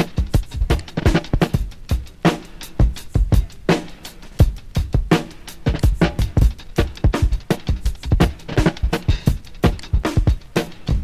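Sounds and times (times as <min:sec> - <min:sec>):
drum kit loops: 0:00.0 - 0:11.0.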